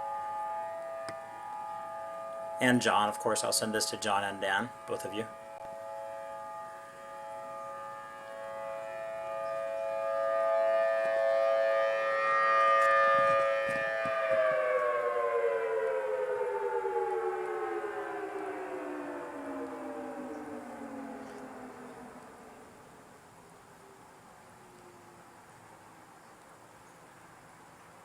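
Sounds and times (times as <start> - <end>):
warning siren winding down: 0.0 - 25.2.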